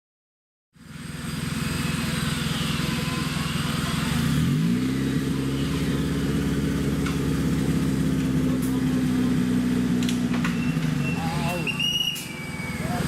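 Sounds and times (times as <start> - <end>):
off-road vehicle engine revving: 0.8 - 13.0.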